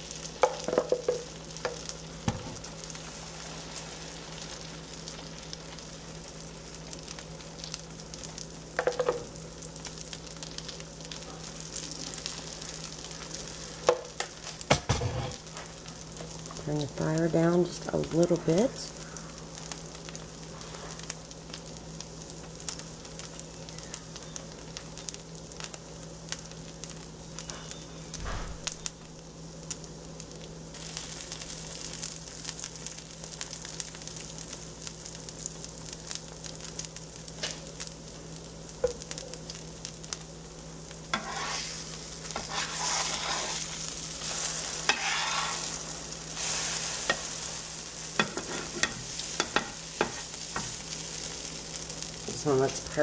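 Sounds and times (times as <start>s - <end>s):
batter sizzling on griddle: 0.0s - 53.0s.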